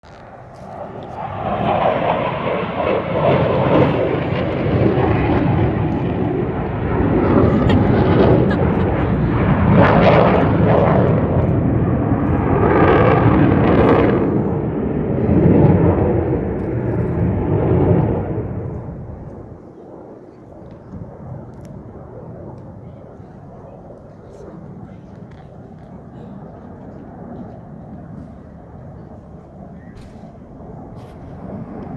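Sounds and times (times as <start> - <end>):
aircraft flying past: 0.0 - 20.2, 20.9 - 31.9.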